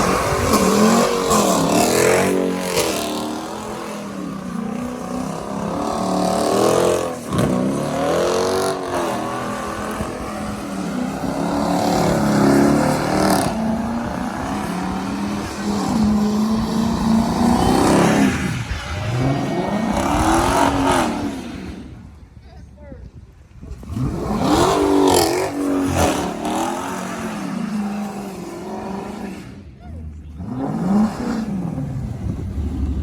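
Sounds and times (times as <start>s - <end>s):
car engines revving: 0.0s - 22.4s, 23.5s - 33.0s.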